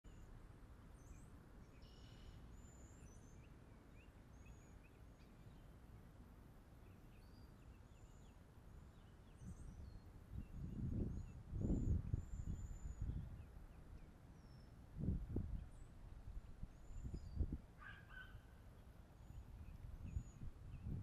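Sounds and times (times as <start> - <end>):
faint high bird chirps: 0.0 - 6.1, 6.8 - 21.0.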